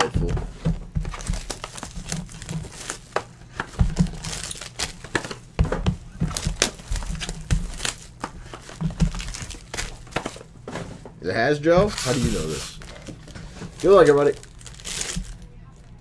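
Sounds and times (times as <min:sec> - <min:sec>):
foil wrappers crinkling: 0:00.0 - 0:05.4, 0:06.1 - 0:10.5, 0:11.7 - 0:16.0.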